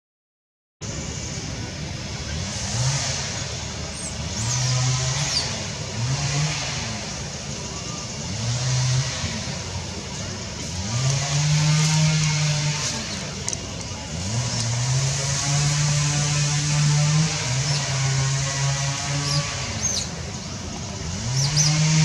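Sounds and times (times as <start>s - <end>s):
engine revving: 0.8s - 22.0s
outdoor noise: 0.8s - 22.0s.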